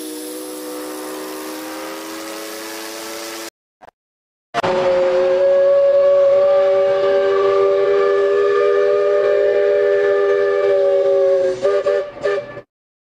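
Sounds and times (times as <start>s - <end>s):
ship's steam whistle blast: 0.0s - 3.5s, 4.6s - 12.7s.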